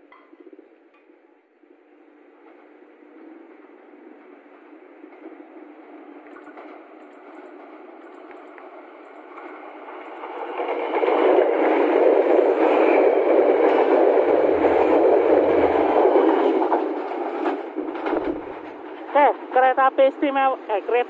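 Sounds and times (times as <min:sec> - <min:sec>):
train wheels rattling on rails: 0:02.4 - 0:21.0.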